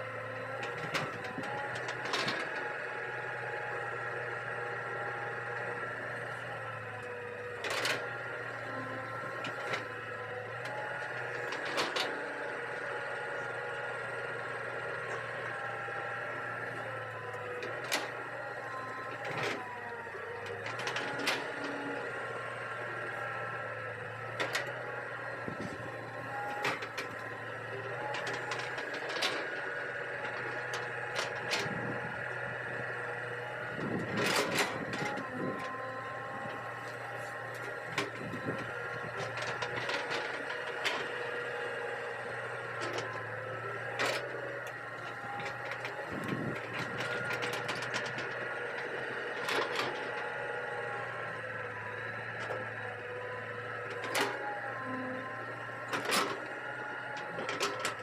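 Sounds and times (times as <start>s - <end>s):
excavator engine hum: 0.0s - 58.0s
whining hydraulics: 0.0s - 58.0s.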